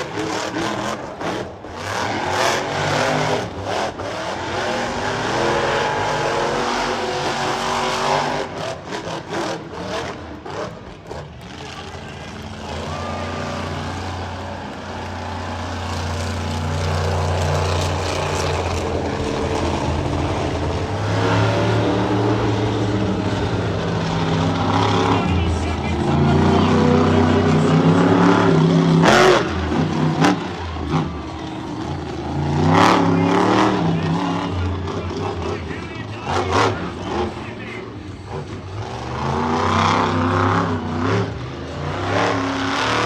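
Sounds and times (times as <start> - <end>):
truck engine running deep: 0.0 - 43.0.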